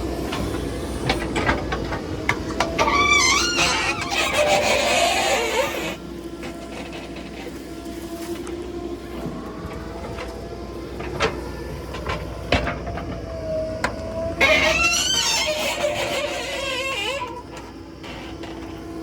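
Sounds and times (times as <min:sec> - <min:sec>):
diesel engine and hydraulics running: 0:00.0 - 0:19.0.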